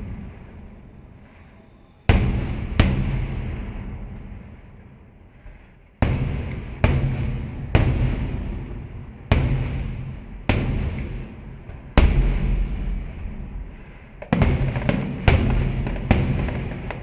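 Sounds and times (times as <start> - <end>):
rumbling echo: 0.0 - 17.0.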